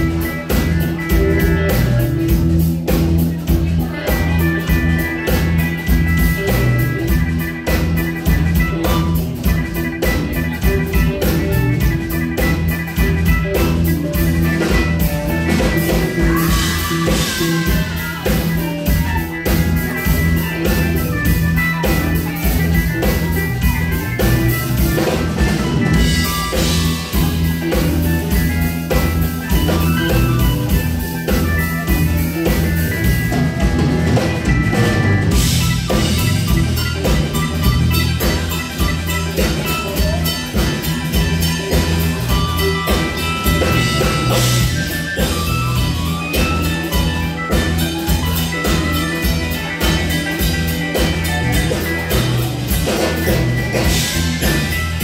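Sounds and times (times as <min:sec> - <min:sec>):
live rock band playing: 0:00.0 - 0:55.0
steady drumbeat: 0:00.0 - 0:55.0.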